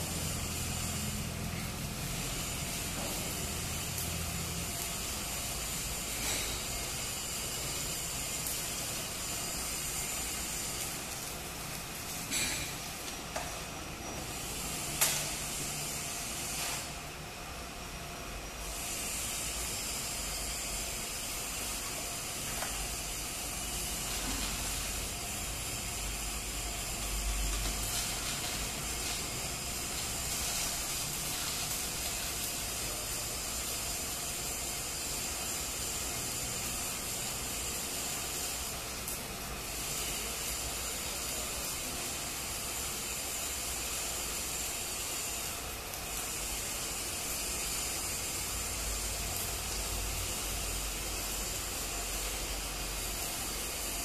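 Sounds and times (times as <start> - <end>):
welding arc crackling and hissing: 0.0 - 54.0.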